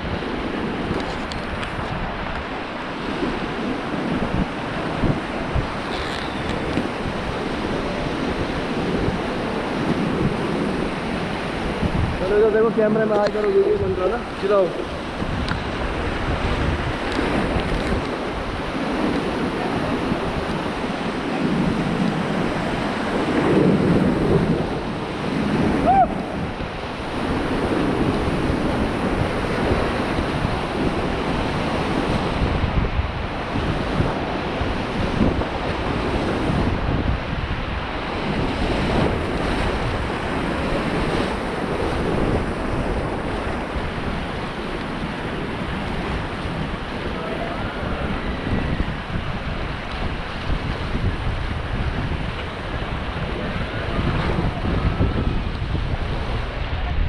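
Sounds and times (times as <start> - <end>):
whitewater rushing: 0.0 - 57.0
wind buffeting microphone: 0.0 - 57.0.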